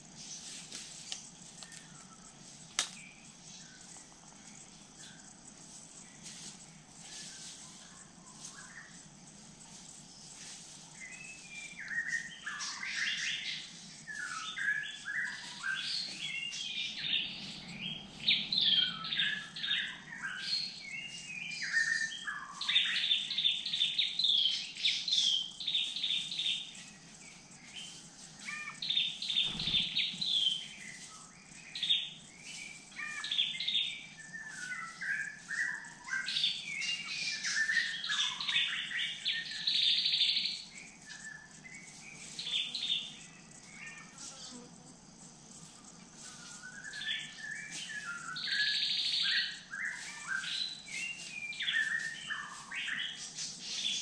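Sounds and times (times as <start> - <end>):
birds calling and singing: 0.0 - 54.0.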